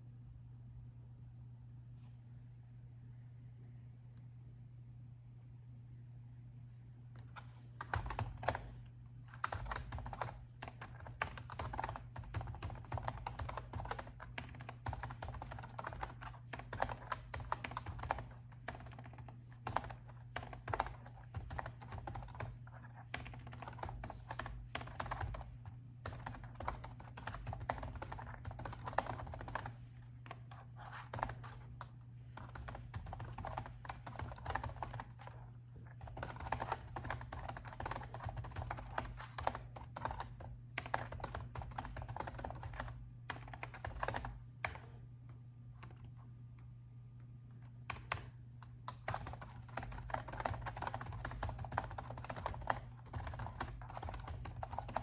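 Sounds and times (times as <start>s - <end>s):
steady low hum: 0.0s - 55.0s
laptop keyboard typing: 7.4s - 45.0s, 47.7s - 55.0s.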